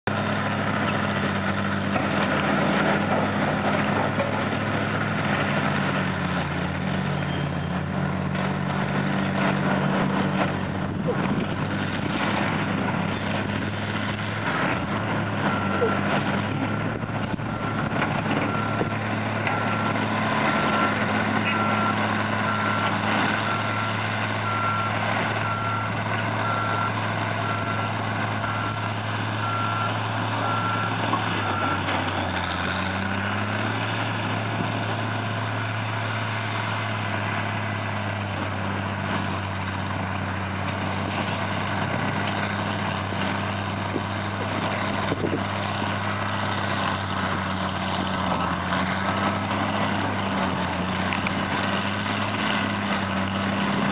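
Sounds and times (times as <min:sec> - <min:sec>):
diesel excavators running: 0:00.0 - 0:53.9.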